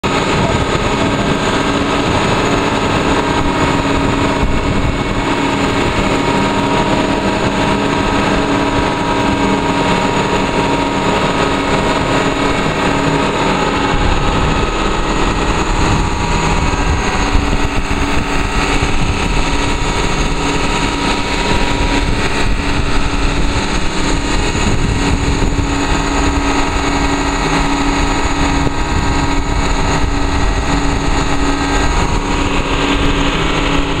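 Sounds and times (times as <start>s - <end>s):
surf and spray rushing: 0.0s - 34.0s
vehicle engine humming: 0.0s - 34.0s.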